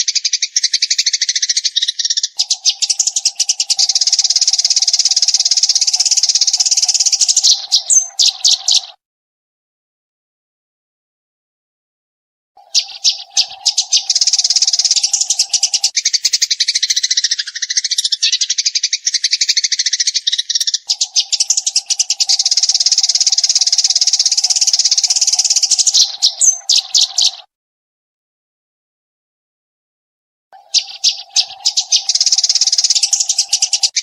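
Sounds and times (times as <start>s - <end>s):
sparrows chirping rapidly: 0.0s - 9.0s, 12.6s - 27.5s, 30.6s - 34.0s.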